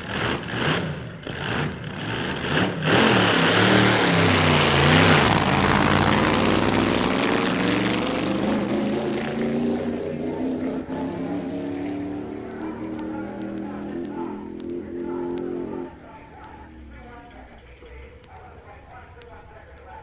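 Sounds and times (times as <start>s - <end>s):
dragster engine at high revs: 0.0s - 16.2s.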